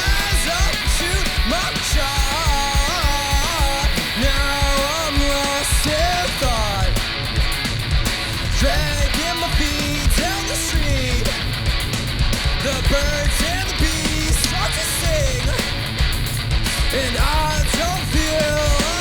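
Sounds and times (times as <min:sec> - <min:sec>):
electric guitar bending notes: 0:00.0 - 0:19.0.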